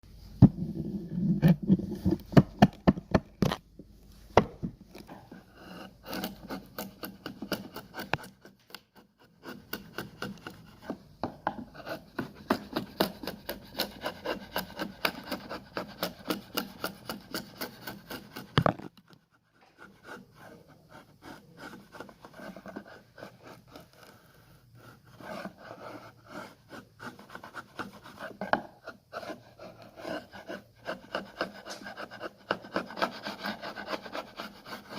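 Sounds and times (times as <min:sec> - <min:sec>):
hand tool scraping wood: 0:00.6 - 0:03.6, 0:04.4 - 0:34.9.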